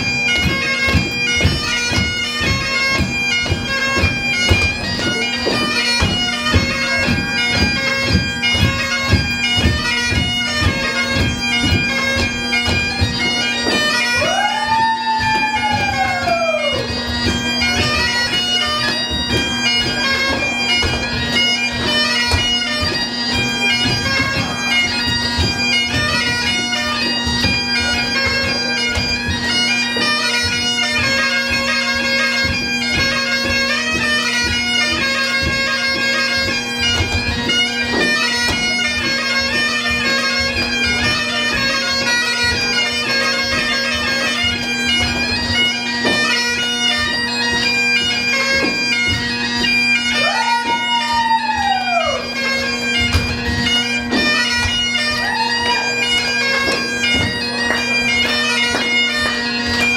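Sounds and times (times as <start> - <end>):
drum beating time: 0.0 - 31.6, 43.5 - 59.9
bagpipes playing a jig: 0.0 - 59.9.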